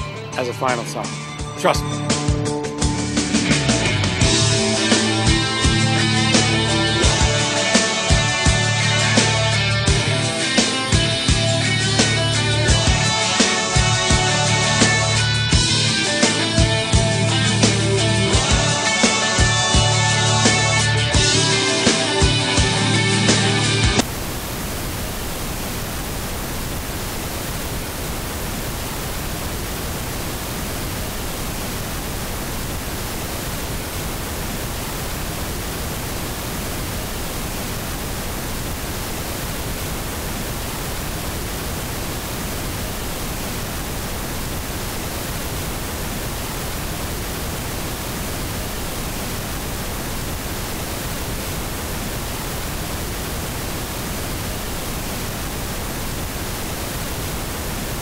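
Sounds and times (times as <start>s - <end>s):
radio static hiss: 0.0s - 22.7s, 23.4s - 58.0s.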